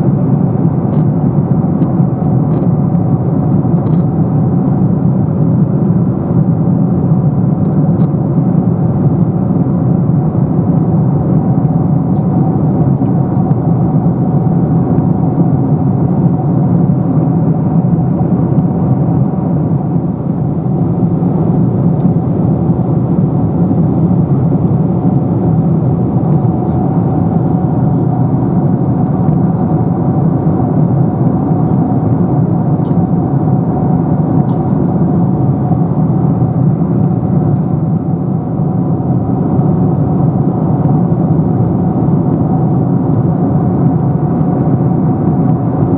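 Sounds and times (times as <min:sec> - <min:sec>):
airliner cabin noise: 0:00.0 - 0:45.9
faint steady hum: 0:00.0 - 0:45.9.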